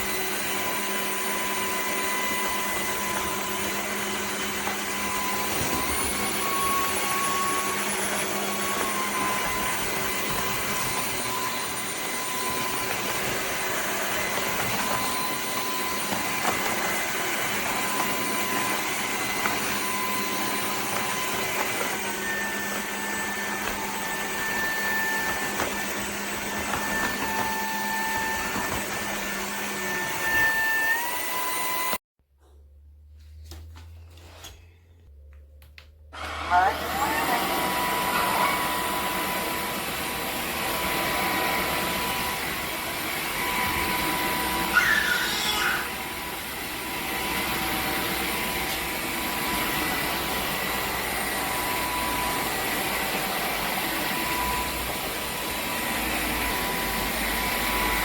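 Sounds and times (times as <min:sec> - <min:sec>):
vacuum motor whine: 0:00.0 - 0:32.0, 0:36.1 - 0:58.0.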